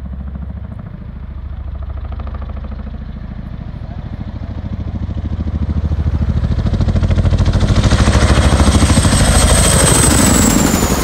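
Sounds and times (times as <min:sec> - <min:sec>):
helicopter rotor beat: 0:00.0 - 0:11.0
high turbine whine: 0:00.0 - 0:11.0.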